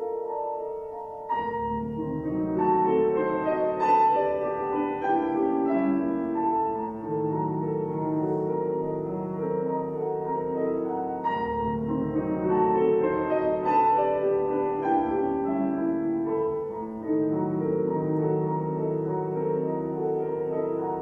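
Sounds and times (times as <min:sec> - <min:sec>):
two pianos playing classical music: 0:00.0 - 0:21.0.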